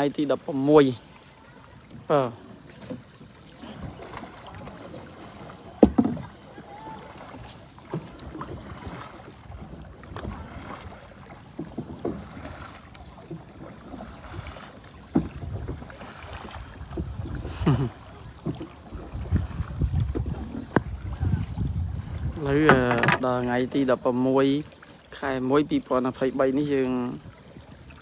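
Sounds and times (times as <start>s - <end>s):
paddle splashing in water: 0.0s - 28.0s.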